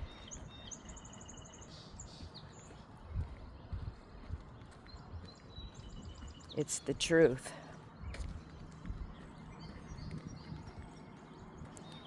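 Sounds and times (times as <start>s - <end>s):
footsteps on road: 0.0s - 12.0s
songbirds calling: 0.0s - 12.0s.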